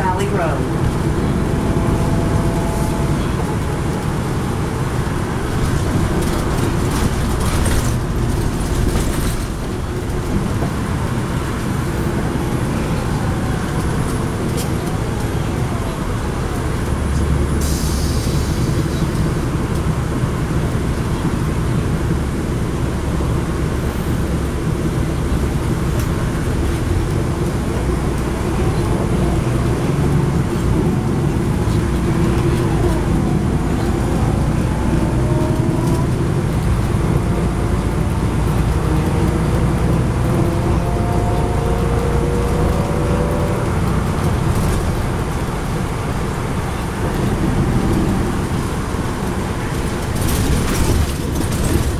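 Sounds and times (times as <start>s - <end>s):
bus diesel engine running: 0.0s - 51.9s
road and tyre noise: 0.0s - 51.9s.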